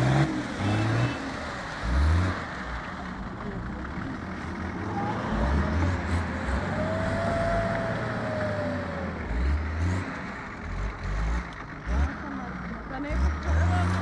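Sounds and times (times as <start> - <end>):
engine running low rumble: 0.0 - 14.0.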